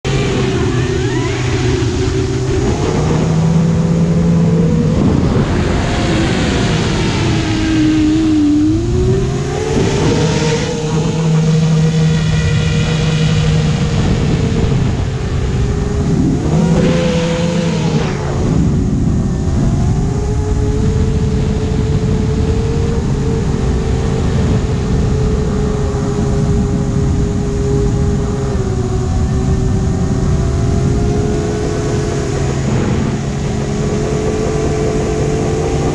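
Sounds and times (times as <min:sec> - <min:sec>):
drone motors whining: 0:00.0 - 0:35.9.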